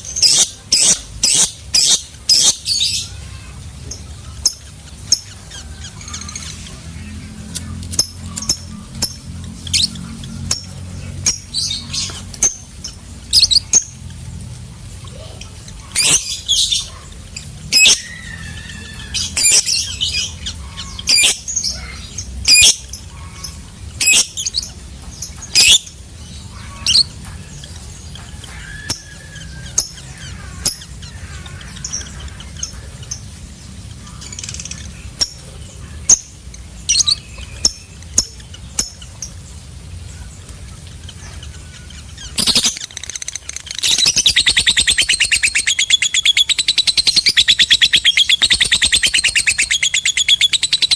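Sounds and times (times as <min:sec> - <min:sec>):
lovebird chattering trill: 0:00.0 - 0:14.2, 0:15.1 - 0:39.4, 0:40.2 - 0:50.9
lovebird chirping: 0:00.0 - 0:50.9.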